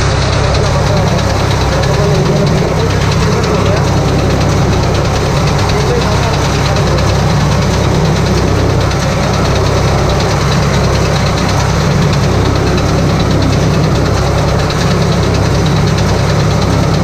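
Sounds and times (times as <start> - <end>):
baler mechanical drone: 0.0 - 17.0
tractor engine running: 0.0 - 17.0.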